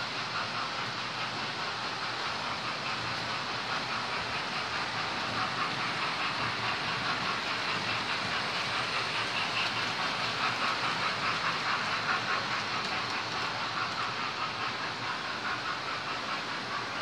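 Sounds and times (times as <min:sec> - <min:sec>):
small wheels rattling on track: 0:00.0 - 0:17.0.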